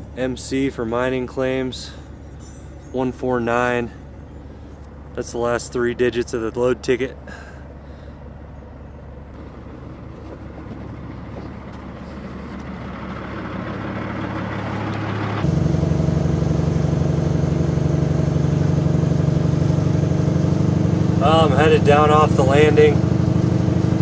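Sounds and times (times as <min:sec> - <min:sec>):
diesel truck engine droning: 0:00.0 - 0:24.0.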